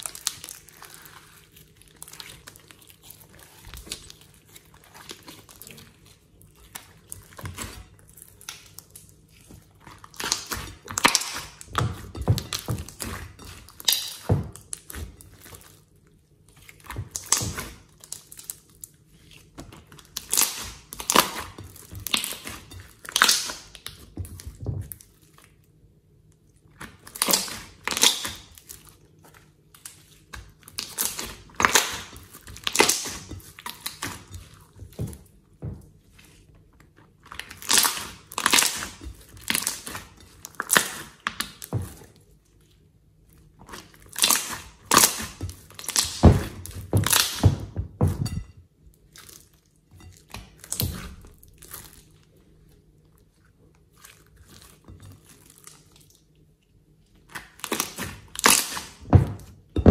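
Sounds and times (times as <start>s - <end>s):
slime squelching: 0.0s - 25.8s, 26.4s - 59.9s.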